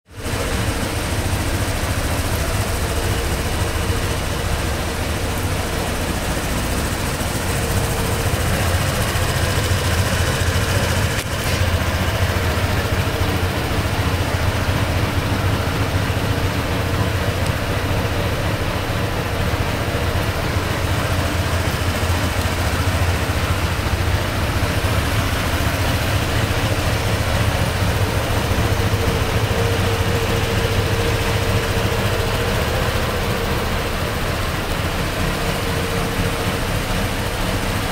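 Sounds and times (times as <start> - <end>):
scooter engine idling: 0.0 - 37.9.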